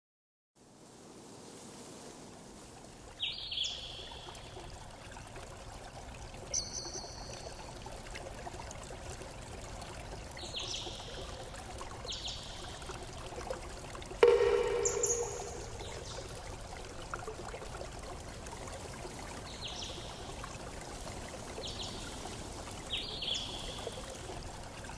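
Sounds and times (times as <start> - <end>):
water trickling: 1.1 - 24.9.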